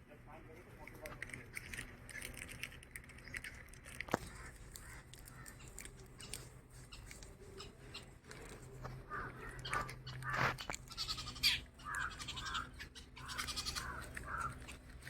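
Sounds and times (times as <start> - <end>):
birds chirping: 2.6 - 15.0.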